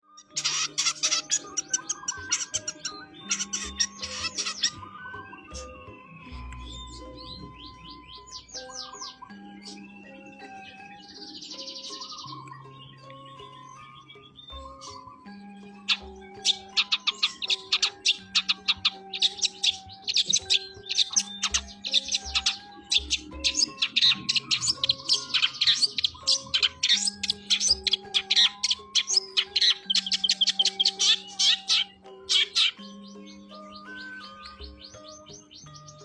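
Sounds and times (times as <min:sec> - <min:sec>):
background music: 0:00.0 - 0:36.0
bird chirping and trilling: 0:00.0 - 0:36.0.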